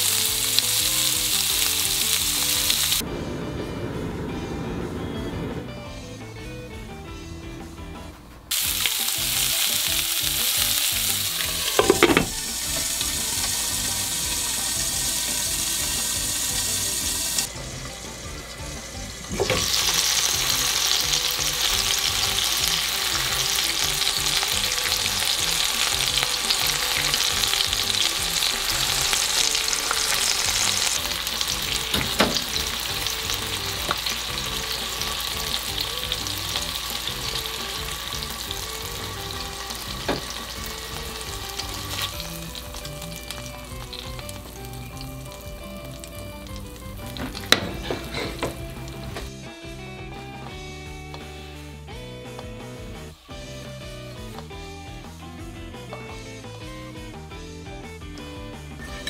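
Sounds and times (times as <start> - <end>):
skewers sizzling in frying pan: 0.0 - 3.0, 8.5 - 57.2.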